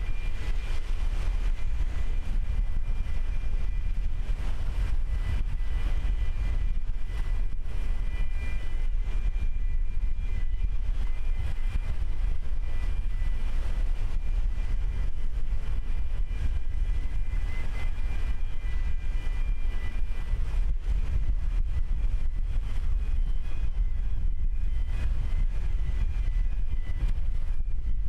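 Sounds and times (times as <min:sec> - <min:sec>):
high machinery whine: 0:00.0 - 0:28.0
ship low rumble: 0:00.0 - 0:28.0
wind on microphone: 0:00.0 - 0:28.0.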